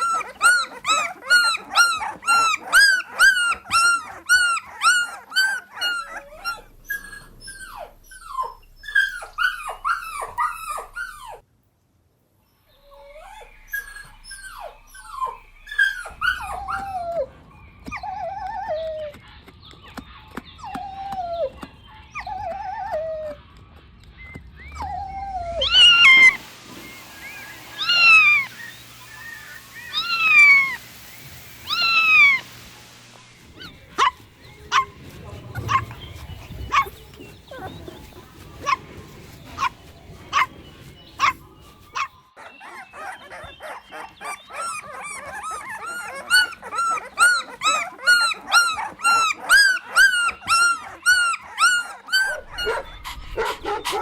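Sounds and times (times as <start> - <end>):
puppies whining and yelping: 0.0 - 11.4, 12.8 - 32.6, 33.4 - 54.0.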